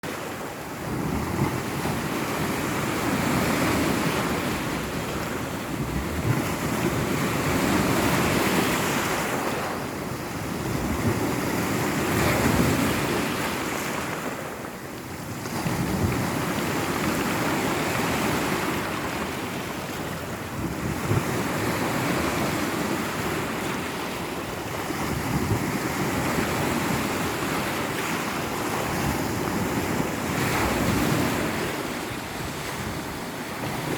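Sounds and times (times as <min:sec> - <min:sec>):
sea surf washing on shore: 0:00.0 - 0:33.9
wind buffeting microphone: 0:00.6 - 0:33.9.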